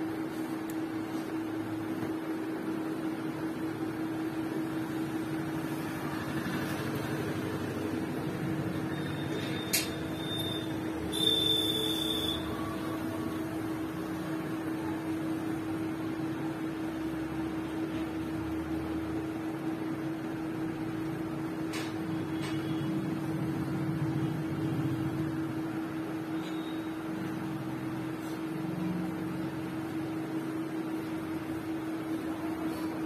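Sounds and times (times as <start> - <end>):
room hum with low tone: 0.0 - 33.0.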